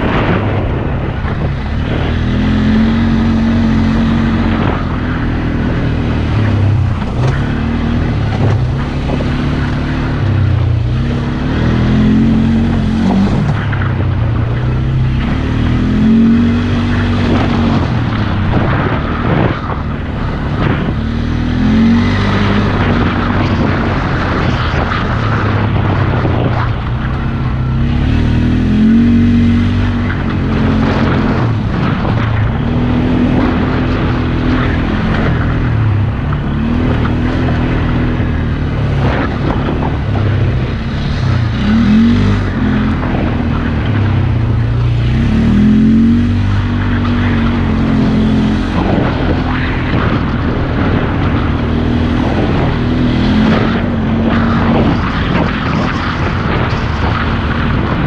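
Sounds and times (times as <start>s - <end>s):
atv engine revving: 0.0s - 25.0s, 25.6s - 58.0s.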